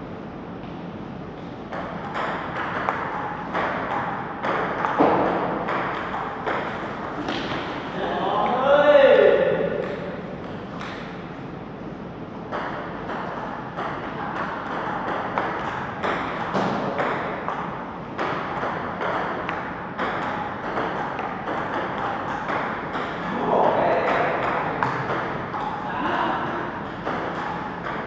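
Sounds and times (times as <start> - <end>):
ping pong ball clicking: 1.7 - 7.9, 9.8 - 11.2, 12.4 - 25.8, 26.4 - 28.0.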